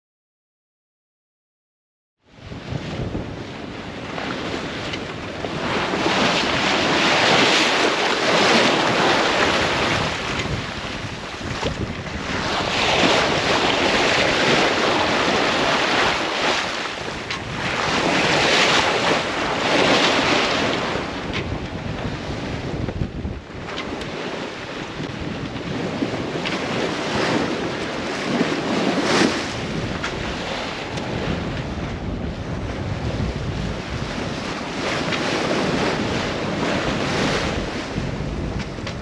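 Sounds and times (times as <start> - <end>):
wind and waves rushing: 2.2 - 39.0
wind buffeting microphone: 2.4 - 39.0.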